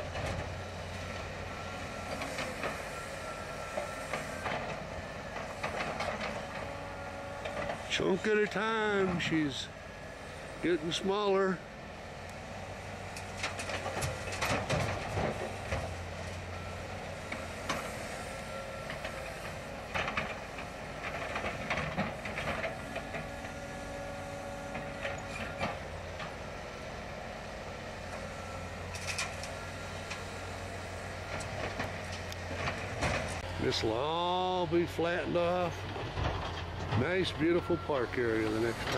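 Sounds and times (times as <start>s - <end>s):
distant crane engine humming: 0.0s - 38.9s.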